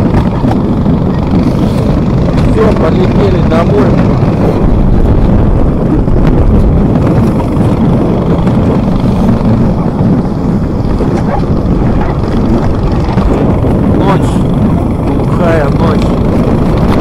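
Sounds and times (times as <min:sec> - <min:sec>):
snowmobile engine running: 0:00.0 - 0:17.0
wind buffeting microphone: 0:00.0 - 0:17.0.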